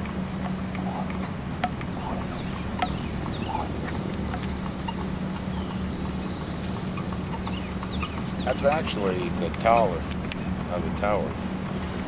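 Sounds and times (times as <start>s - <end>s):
tram carriage rolling hum: 0.0s - 12.0s.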